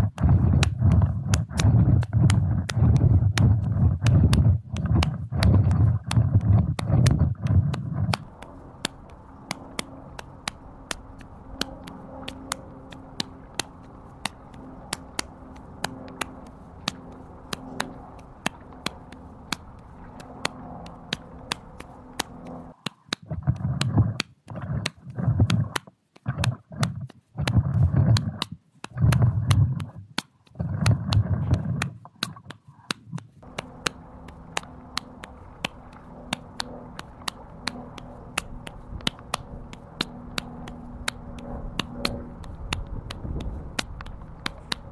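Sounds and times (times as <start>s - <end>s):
sharp clicks: 0.0s - 44.9s.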